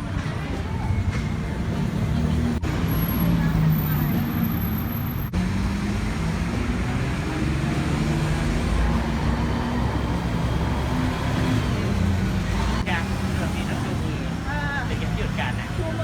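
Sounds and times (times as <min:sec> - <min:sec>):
motor traffic noise: 0:00.0 - 0:16.0.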